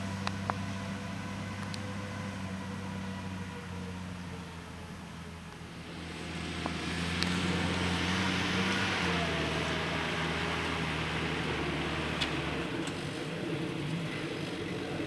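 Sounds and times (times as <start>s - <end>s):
tractor engine humming: 0.0s - 15.0s.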